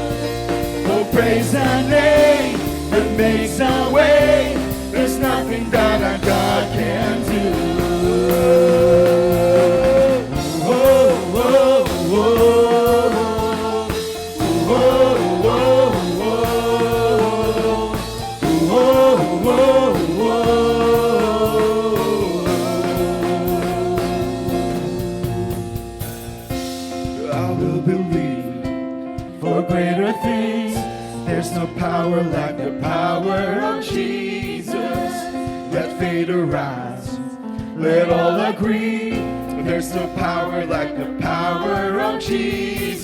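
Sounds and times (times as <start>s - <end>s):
worship band music with singing: 0.0s - 43.0s.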